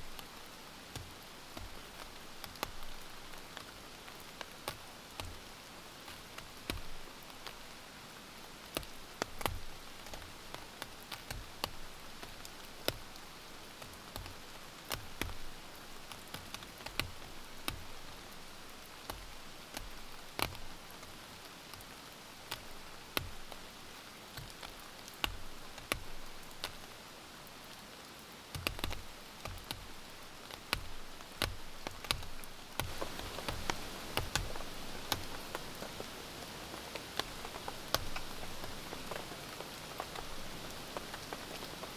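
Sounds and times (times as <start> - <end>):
rain falling: 0.0 - 41.9.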